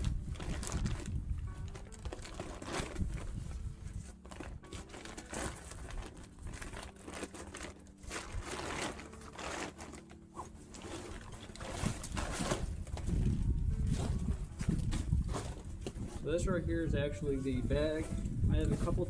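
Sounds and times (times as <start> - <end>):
tarp rustling and crinkling: 0.0 - 19.0.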